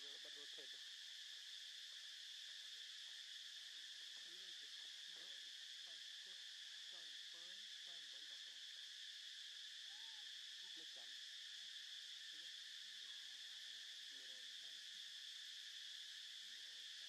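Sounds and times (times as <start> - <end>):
faint high-pitched insect drone: 0.0 - 17.0.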